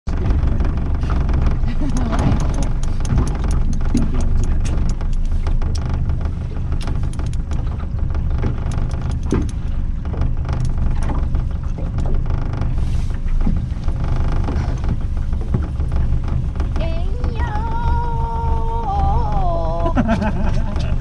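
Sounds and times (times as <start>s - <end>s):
clicks and rattles of tackle: 0.1s - 17.8s
boat engine idling: 0.1s - 21.0s.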